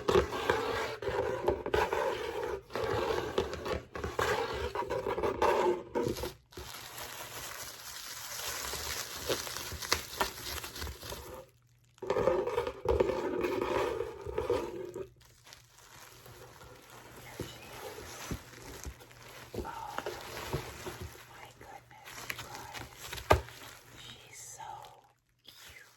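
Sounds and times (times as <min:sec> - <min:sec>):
paper and plastic crinkling: 0:02.5 - 0:25.9.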